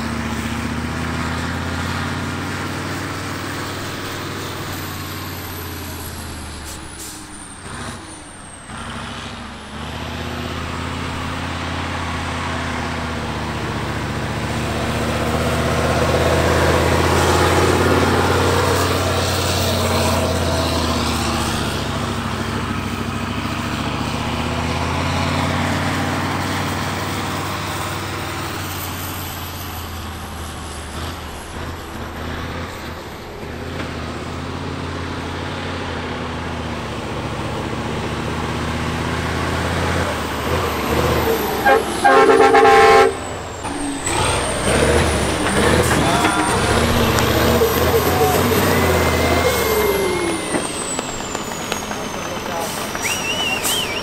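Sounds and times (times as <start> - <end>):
truck diesel engine revving: 0.0 - 54.0.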